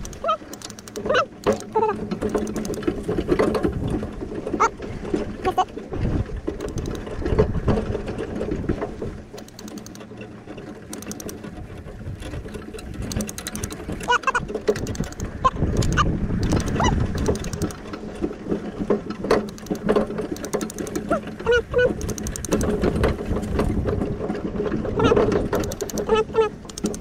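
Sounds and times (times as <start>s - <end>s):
metal cart and harness rattling: 0.0s - 27.0s.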